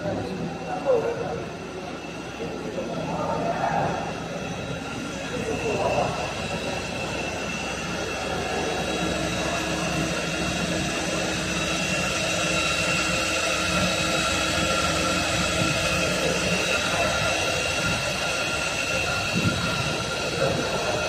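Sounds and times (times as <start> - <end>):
high machine whines: 0.0 - 21.0
lathe machine drone: 0.0 - 21.0.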